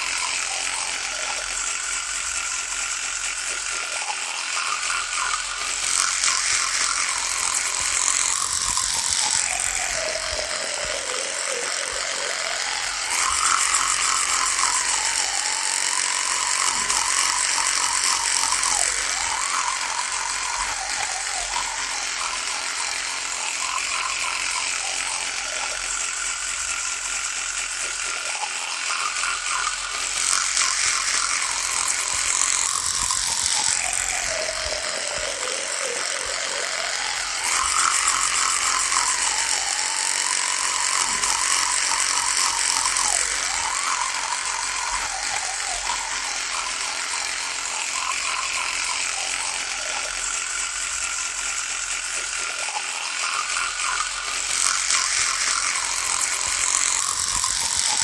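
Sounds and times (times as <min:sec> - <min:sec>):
electric toothbrush buzzing: 0:00.0 - 0:58.0.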